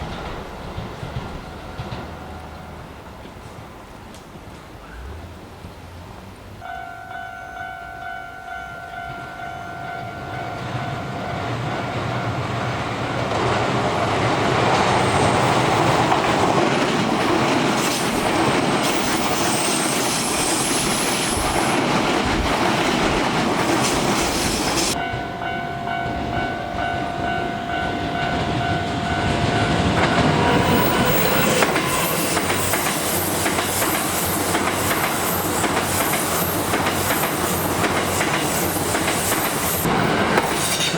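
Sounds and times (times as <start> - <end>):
electric trains passing: 0.0 - 40.9.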